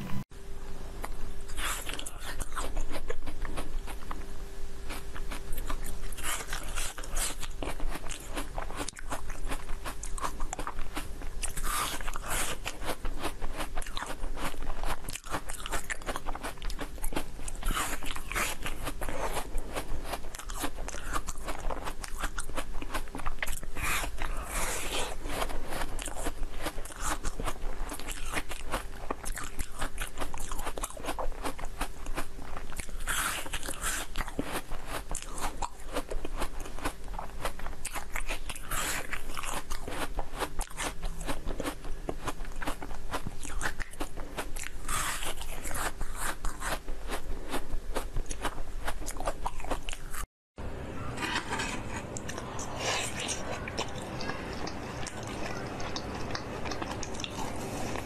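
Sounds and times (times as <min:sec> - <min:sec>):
crunching and chewing: 0:01.0 - 0:50.3, 0:51.0 - 0:58.0.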